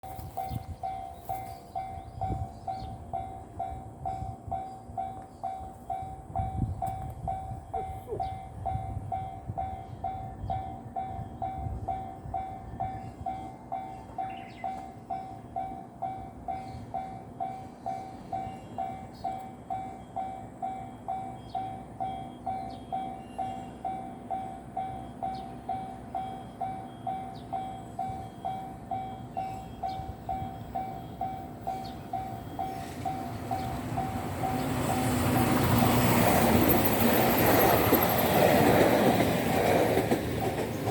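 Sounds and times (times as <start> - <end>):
electric train rumbling past: 0.0 - 40.9.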